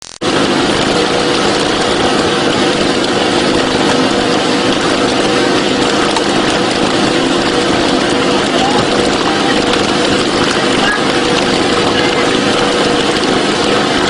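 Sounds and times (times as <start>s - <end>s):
boat engine humming: 0.2s - 14.0s.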